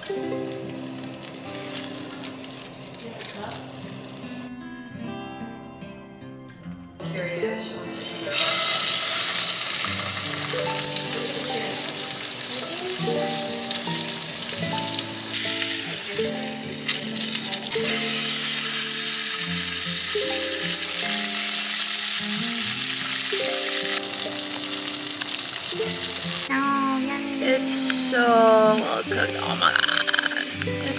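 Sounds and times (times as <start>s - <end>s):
food frying in oil: 0.0s - 4.5s, 8.0s - 30.9s
soft melody: 0.0s - 8.6s, 9.8s - 30.9s.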